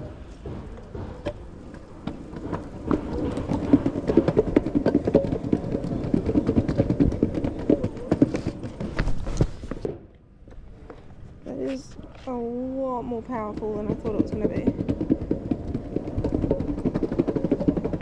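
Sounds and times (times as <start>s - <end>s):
skateboard wheels rattling on pavement: 0.0s - 10.0s, 12.1s - 18.0s.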